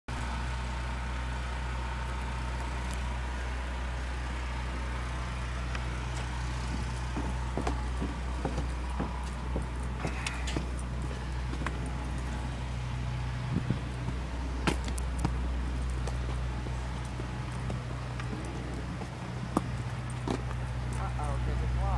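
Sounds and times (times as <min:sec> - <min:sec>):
low engine hum: 0:00.1 - 0:21.9.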